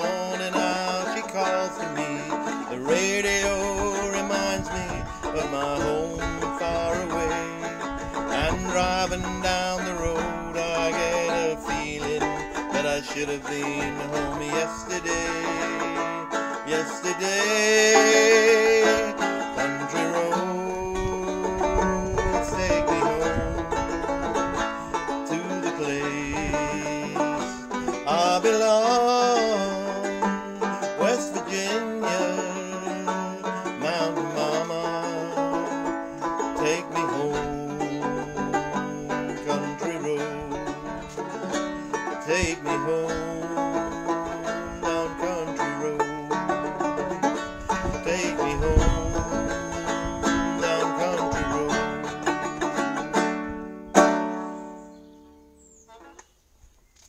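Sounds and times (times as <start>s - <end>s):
man singing: 0.0s - 53.5s
banjo strumming: 0.0s - 56.3s.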